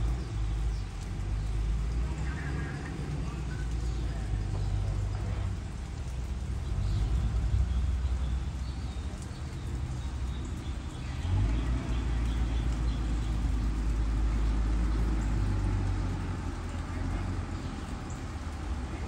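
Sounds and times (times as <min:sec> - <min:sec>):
fire engine rumbling: 0:00.0 - 0:19.0.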